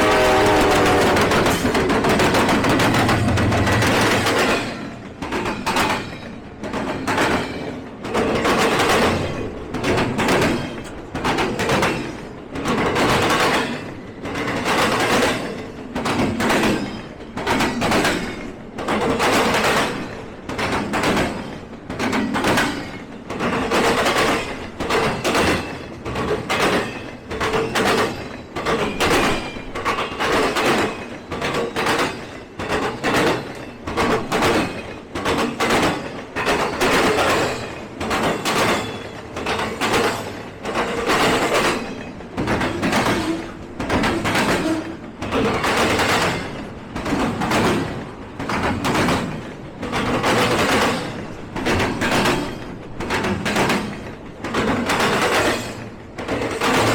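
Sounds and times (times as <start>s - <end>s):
train rolling rumble: 0.0s - 56.9s
train wheels clattering on rail joints: 0.0s - 56.9s.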